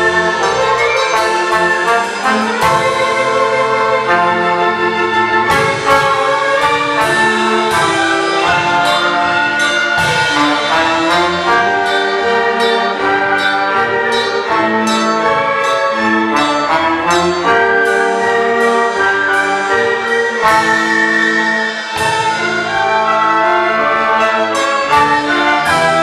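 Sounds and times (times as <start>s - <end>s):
brass-led orchestral music: 0.0s - 26.0s.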